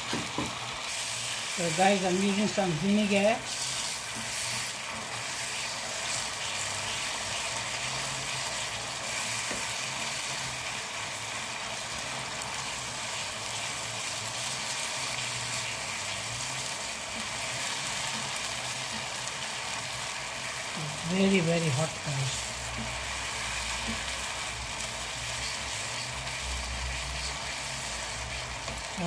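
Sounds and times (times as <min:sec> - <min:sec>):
chili paste sizzling in a pan: 0:00.0 - 0:29.0.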